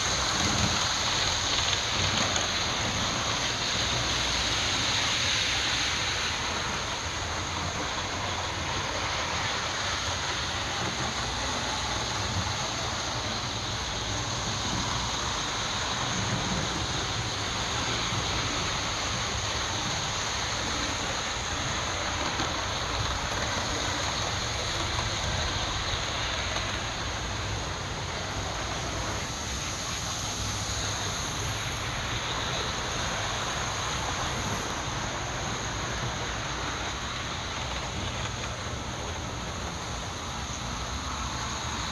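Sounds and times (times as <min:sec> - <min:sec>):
model trains rumbling on track: 0:00.0 - 0:41.9.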